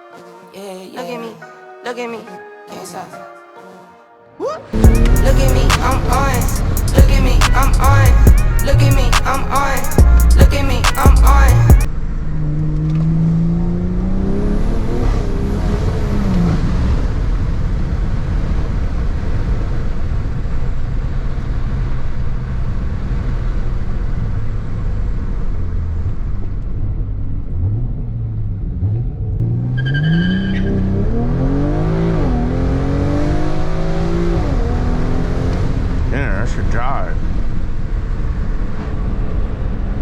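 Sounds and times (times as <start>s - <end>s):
car engine accelerating: 4.7s - 40.0s.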